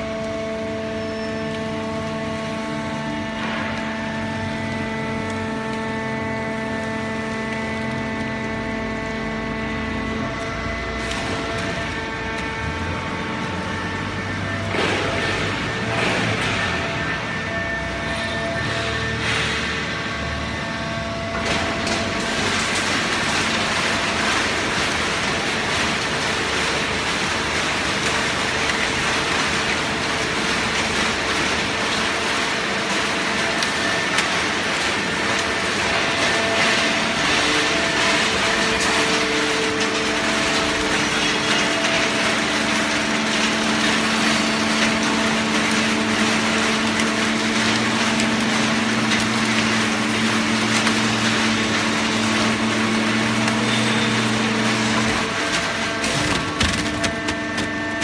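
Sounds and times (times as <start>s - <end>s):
deeper hum: 0.0s - 58.0s
hydraulic power unit hum: 0.0s - 58.0s.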